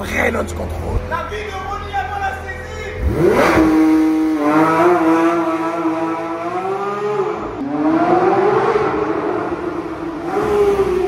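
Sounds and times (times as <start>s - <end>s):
sports car engine at full throttle: 0.0s - 11.0s.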